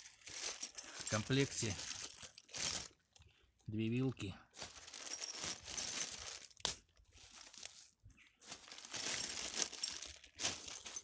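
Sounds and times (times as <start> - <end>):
plastic bags crinkling: 0.0 - 3.2, 4.5 - 11.0.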